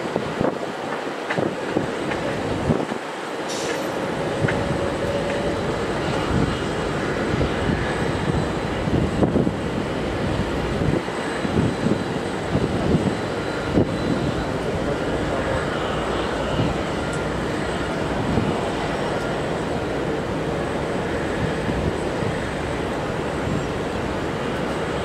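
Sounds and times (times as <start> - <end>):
wind buffeting microphone: 0.0 - 3.2, 3.9 - 25.0
jet engines rumbling: 0.0 - 25.0.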